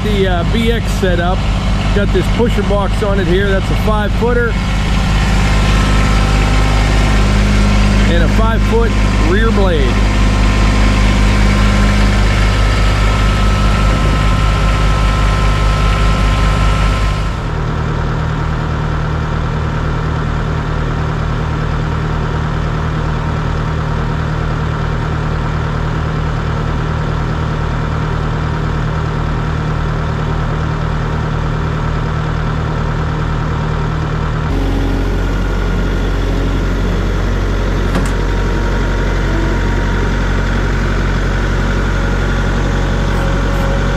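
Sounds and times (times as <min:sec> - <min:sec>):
tractor diesel engine idling: 0:00.0 - 0:43.9.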